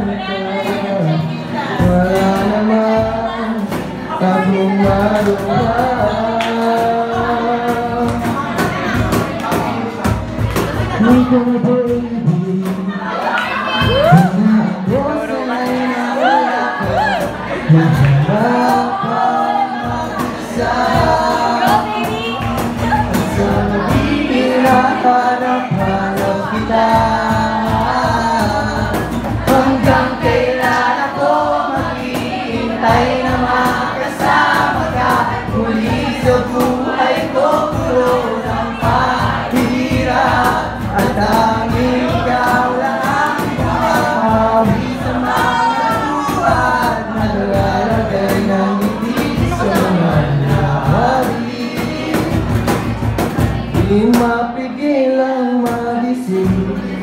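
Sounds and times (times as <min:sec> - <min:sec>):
bass guitar: 0:00.0 - 0:54.6
acoustic guitars: 0:00.0 - 0:57.0
cajon beat: 0:00.0 - 0:57.0
two men singing together: 0:00.0 - 0:57.0.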